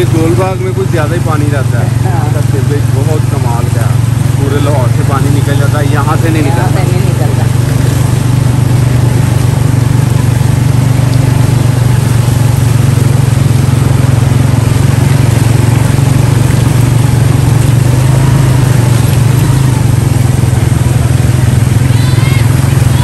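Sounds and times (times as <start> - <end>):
motorcycle engine running: 0.0 - 23.0
rushing wind and water: 0.0 - 23.0.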